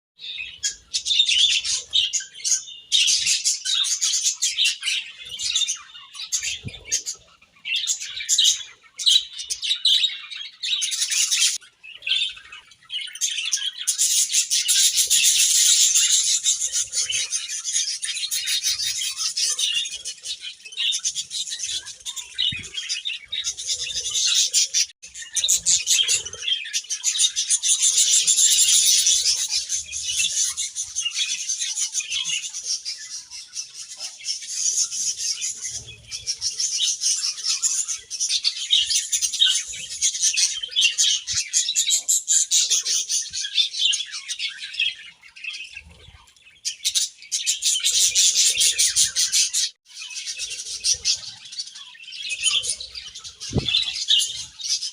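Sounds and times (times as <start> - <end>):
budgerigars chattering and chirping: 0.2 - 54.9.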